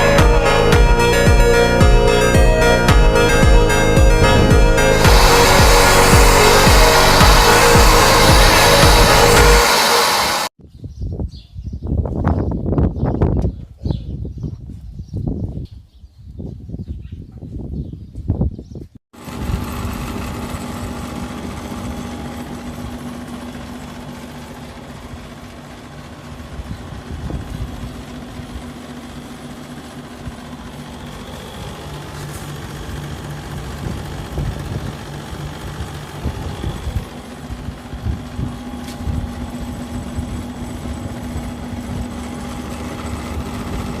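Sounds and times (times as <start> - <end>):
compressor humming: 0.0 - 10.5, 19.2 - 44.0.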